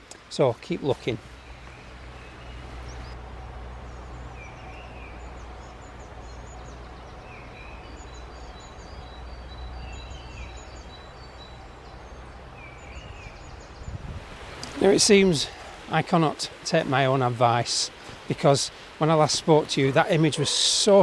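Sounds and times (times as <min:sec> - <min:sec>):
birds chirping and trilling: 0:00.4 - 0:21.0.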